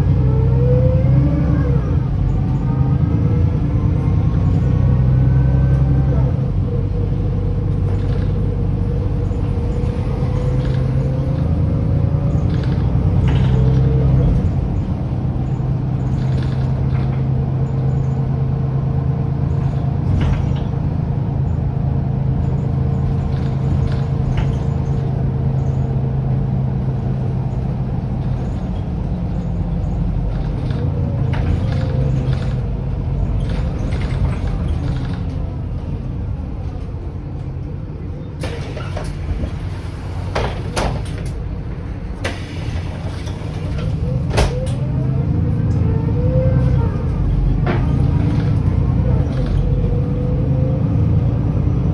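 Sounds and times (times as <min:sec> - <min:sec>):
bus diesel engine droning: 0:00.0 - 0:51.9.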